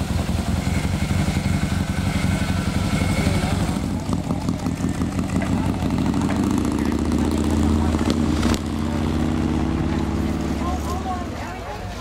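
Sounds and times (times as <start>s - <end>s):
car engine driving away: 0.0s - 12.0s.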